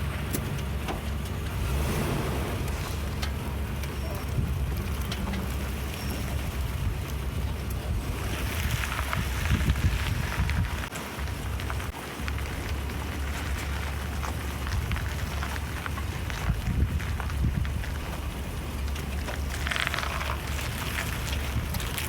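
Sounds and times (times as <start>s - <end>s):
engine low rumble: 0.0s - 22.0s.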